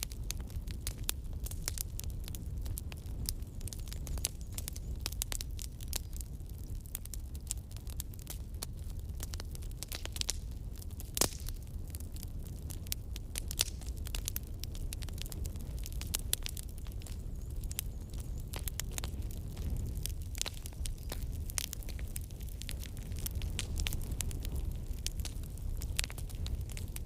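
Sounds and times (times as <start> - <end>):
campfire crackling and popping: 0.0 - 27.0
low rumble of flames: 0.0 - 27.0.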